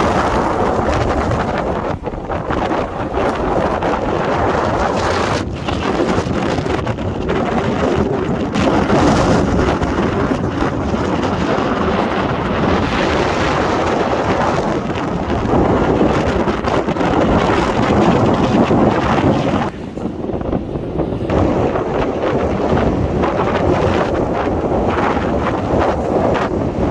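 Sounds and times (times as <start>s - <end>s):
wind rumble on microphone: 0.0s - 26.9s.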